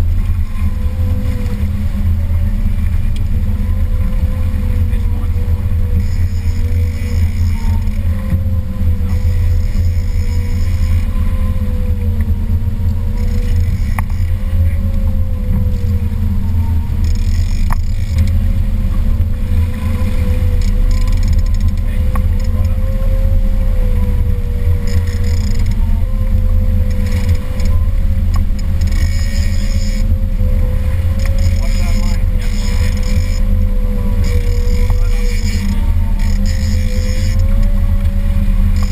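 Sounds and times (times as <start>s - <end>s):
motorboat engine rumble: 0.0s - 38.9s.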